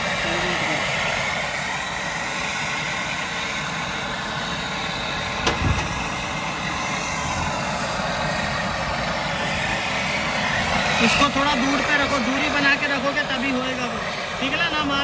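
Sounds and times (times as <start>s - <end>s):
brazing torch burning: 0.0s - 15.0s.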